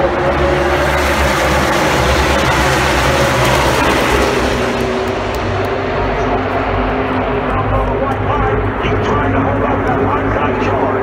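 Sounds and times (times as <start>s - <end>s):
race car engines roaring: 0.0s - 11.0s.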